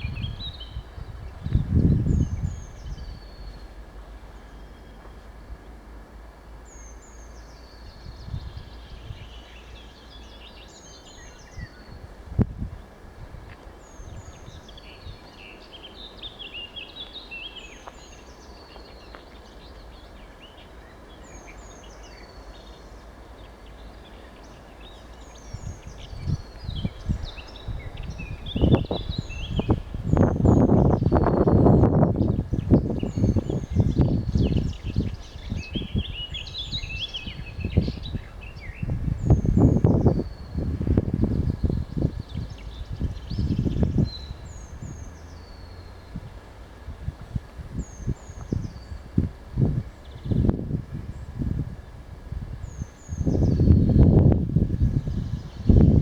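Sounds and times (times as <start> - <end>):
songbirds chirping and whistling: 0.0 - 5.8, 6.6 - 13.0, 13.6 - 51.9, 52.6 - 56.0
wind rumble on microphone: 0.0 - 56.0.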